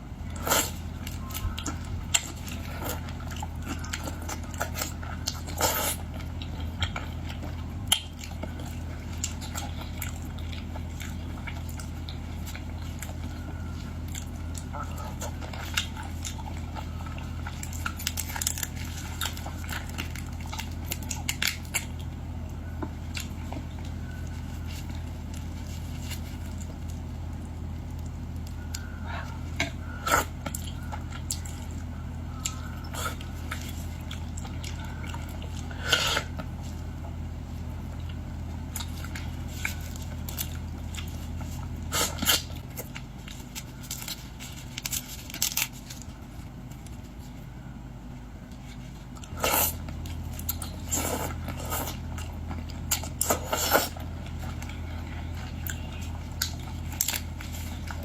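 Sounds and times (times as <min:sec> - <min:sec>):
low hum: 0:00.0 - 0:58.0
person chewing and biting shellfish: 0:00.1 - 0:47.3, 0:48.4 - 0:58.0.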